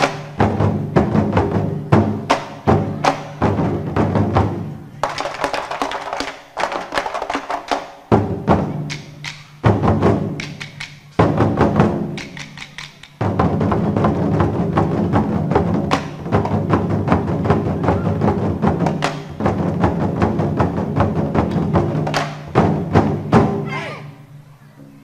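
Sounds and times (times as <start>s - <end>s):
barrel drums beating: 0.0s - 23.9s.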